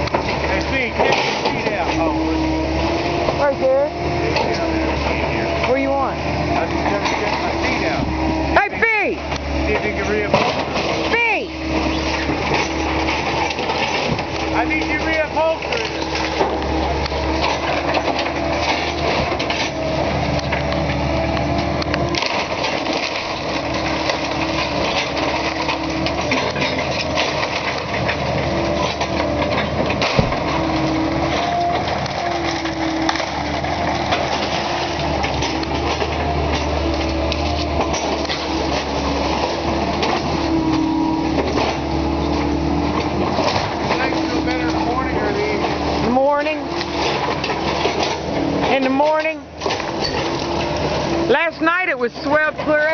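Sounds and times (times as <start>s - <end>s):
boards breaking and crunching: 0.0s - 2.1s, 9.8s - 21.0s, 21.9s - 51.0s
excavator engine running: 0.0s - 52.9s.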